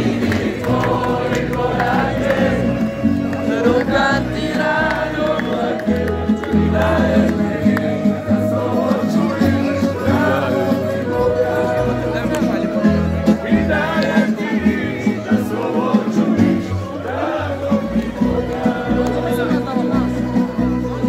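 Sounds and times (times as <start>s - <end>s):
group of voices singing: 0.0s - 21.0s
instrumental accompaniment: 0.0s - 21.0s.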